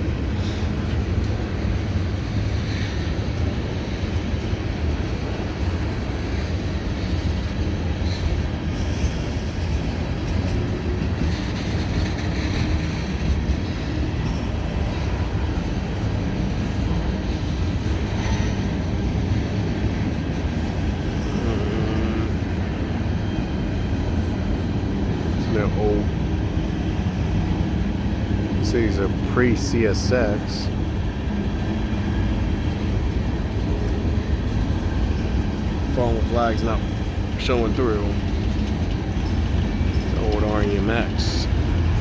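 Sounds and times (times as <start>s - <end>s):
freight train cars rolling: 0.0s - 42.0s.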